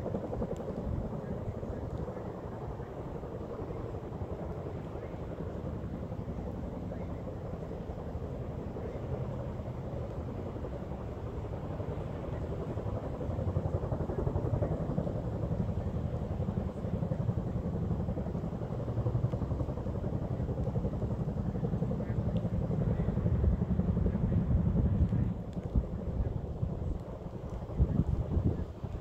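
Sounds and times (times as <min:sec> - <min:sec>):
helicopter rotors beating: 0:00.0 - 0:29.0.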